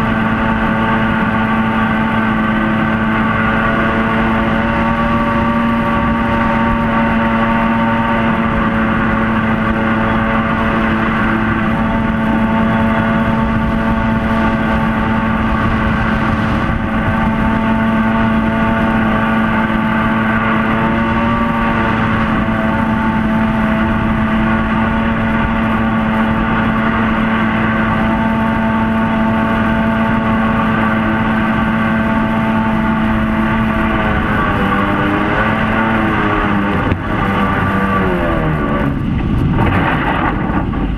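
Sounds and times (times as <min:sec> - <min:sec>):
jet boat engine: 0:00.0 - 0:40.9
water rushing and spray: 0:00.0 - 0:40.9.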